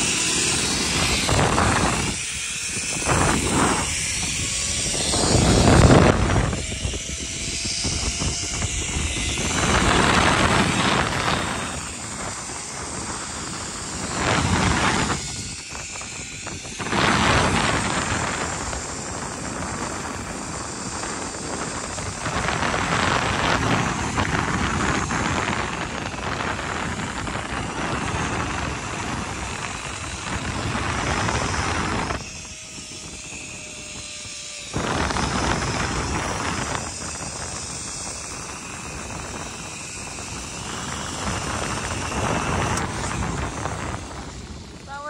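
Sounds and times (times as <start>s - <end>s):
pulleys running along steel cable: 0.0s - 45.0s
wind rushing over microphone: 0.0s - 45.0s.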